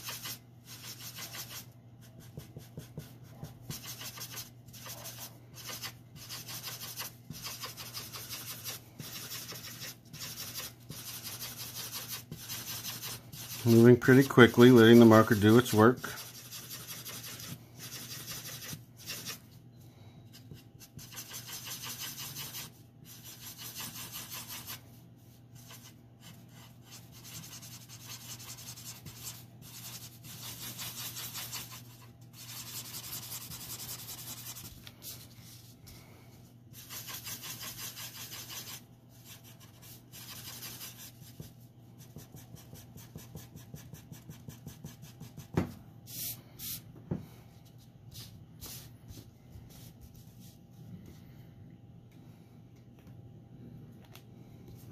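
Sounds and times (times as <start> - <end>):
marker scratching on paper: 0.0 - 19.6, 20.3 - 35.7, 36.7 - 46.8, 48.1 - 50.6.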